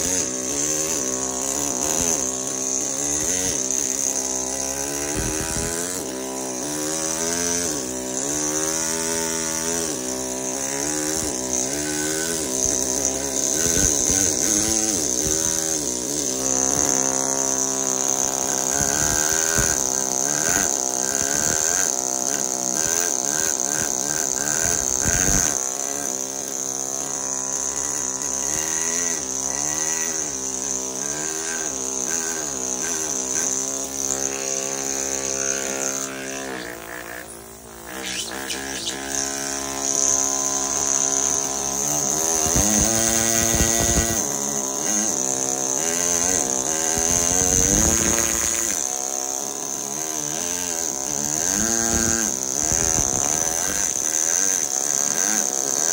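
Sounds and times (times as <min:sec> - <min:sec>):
pneumatic hammer on chisel buzzing: 0:00.0 - 0:55.9.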